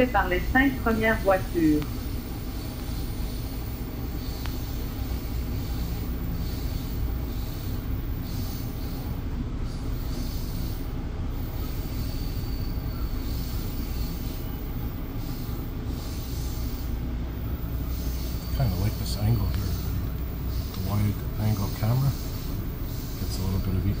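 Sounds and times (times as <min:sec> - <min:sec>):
faint high whine: 0:00.0 - 0:24.0
train coach rumbling on track: 0:00.0 - 0:24.0.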